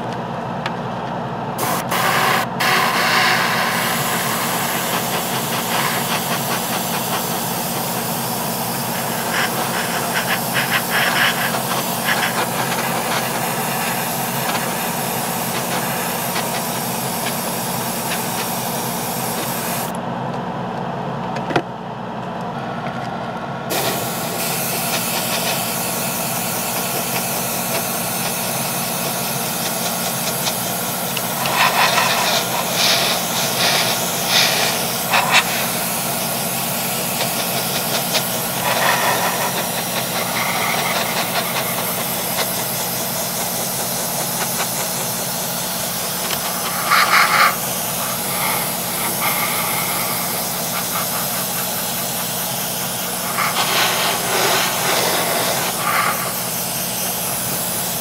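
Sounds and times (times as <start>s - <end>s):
airbrush spraying hiss: 1.6s - 19.9s, 23.7s - 58.0s.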